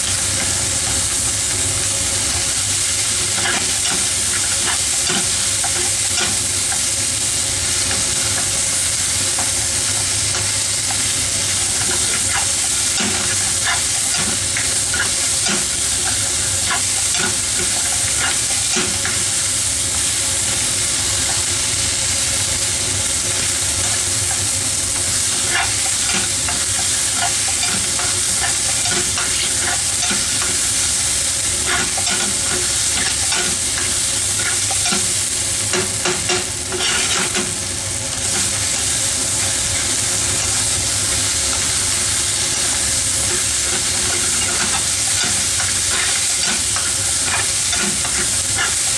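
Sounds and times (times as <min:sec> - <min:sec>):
food sizzling in a frying pan: 0:00.0 - 0:48.9.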